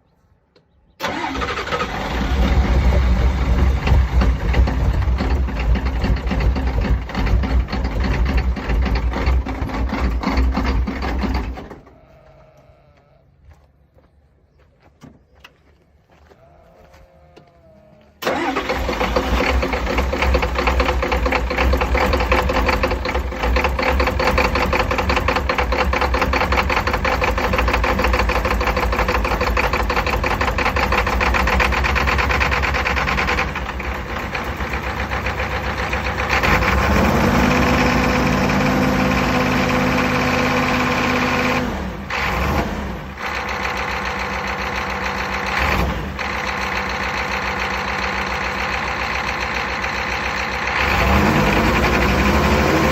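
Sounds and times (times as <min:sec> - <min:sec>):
engine running: 0:01.0 - 0:11.9, 0:18.2 - 0:52.9.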